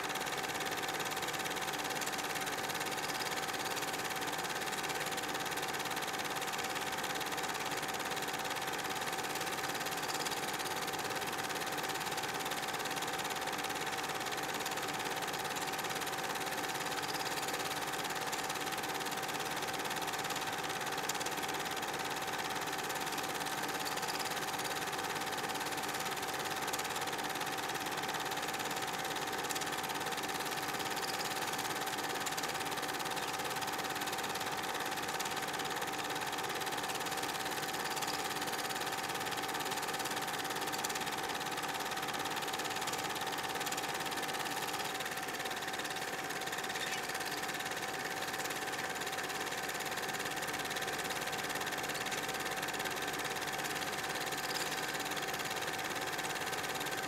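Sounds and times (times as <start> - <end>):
film projector whirring and clattering: 0.0 - 57.0.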